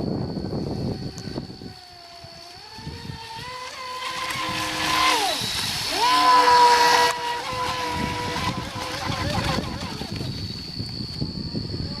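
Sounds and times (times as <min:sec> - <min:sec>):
toy boat motor whining: 0:00.4 - 0:11.2.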